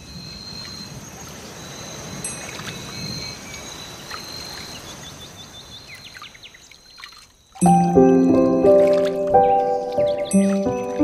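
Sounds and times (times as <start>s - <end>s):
faint high chirps: 1.6s - 11.0s.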